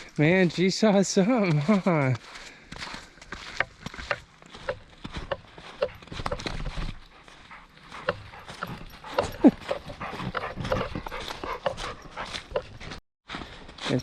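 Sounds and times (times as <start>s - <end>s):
footsteps on snow: 0.0s - 14.0s.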